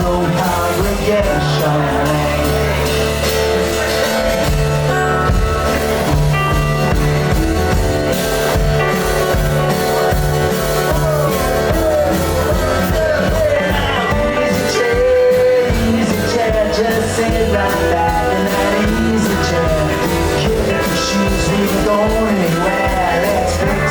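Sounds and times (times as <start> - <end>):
rock band playing: 0.0 - 23.9.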